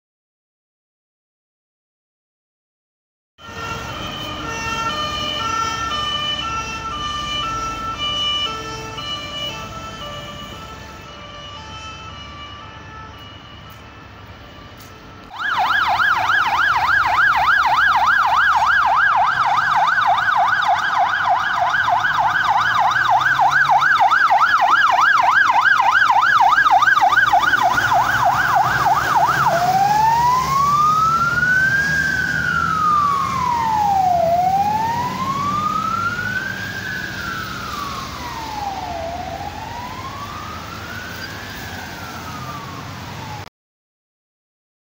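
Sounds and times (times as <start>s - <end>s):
emergency siren yelp and wail: 3.4s - 43.5s
engine and traffic: 3.4s - 43.5s.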